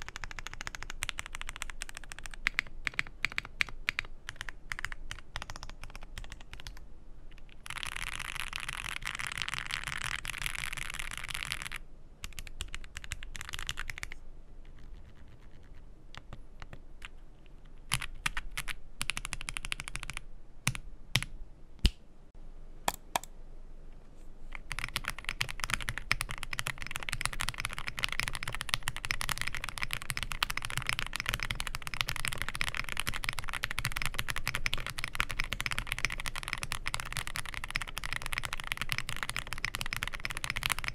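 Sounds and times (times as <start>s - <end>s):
mechanical keyboard typing: 0.0s - 6.8s, 7.6s - 17.2s, 17.9s - 21.3s, 24.5s - 40.9s.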